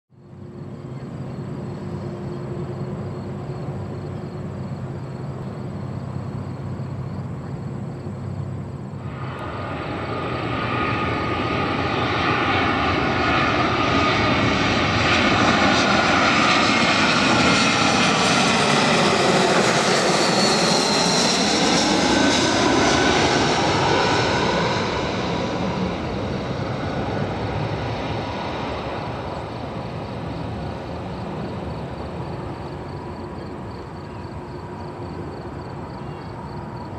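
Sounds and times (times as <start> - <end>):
airliner jet engine passing overhead: 0.2 - 36.9.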